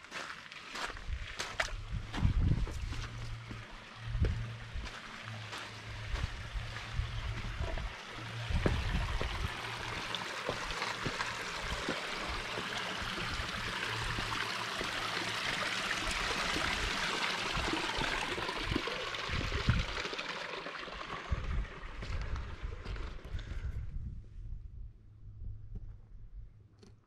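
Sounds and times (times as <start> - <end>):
stream trickling over rocks: 0.1 - 23.5.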